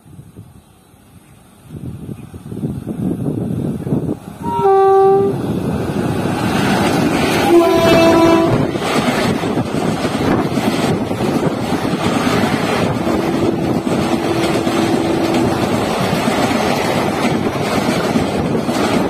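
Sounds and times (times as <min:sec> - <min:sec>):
train wheels rumbling on rails: 0:00.0 - 0:19.0
wind buffeting microphone: 0:01.6 - 0:19.0.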